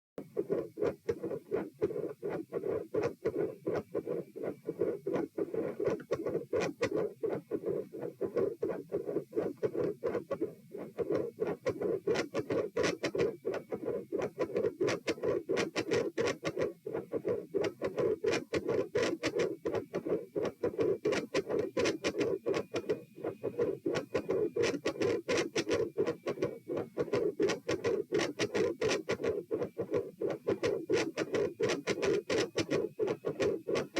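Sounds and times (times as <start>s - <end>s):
heart murmur: 0.2s - 33.9s
heartbeat: 0.2s - 33.9s.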